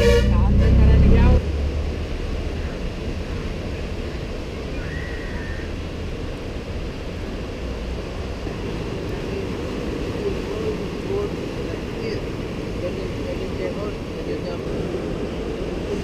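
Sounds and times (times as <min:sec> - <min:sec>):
breaking surf: 0:00.0 - 0:16.0.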